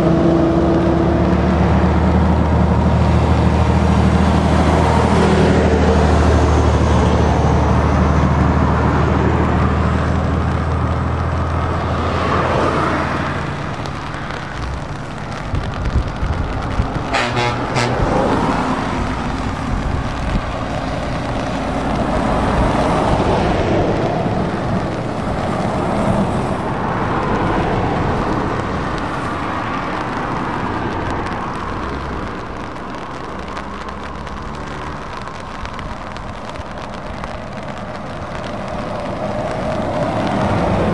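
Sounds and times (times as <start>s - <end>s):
lorry diesel engines passing: 0.0s - 40.9s
tyre hiss on wet road: 0.0s - 40.9s.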